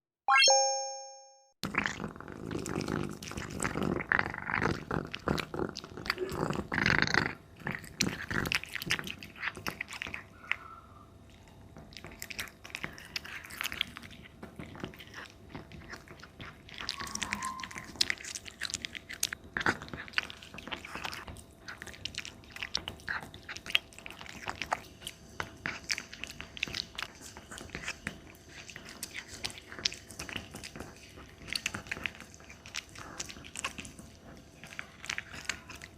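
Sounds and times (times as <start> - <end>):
cat chewing and crunching: 1.6 - 35.9.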